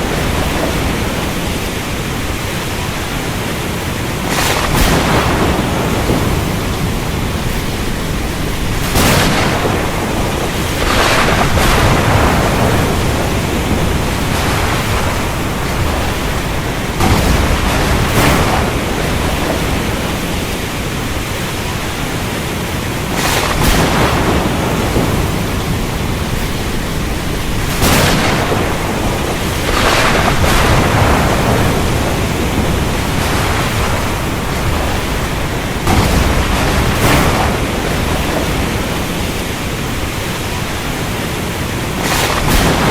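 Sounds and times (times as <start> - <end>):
thunder cracks rumbling: 0.0 - 22.3, 23.0 - 40.8, 41.9 - 42.9
heavy rain: 0.0 - 42.9.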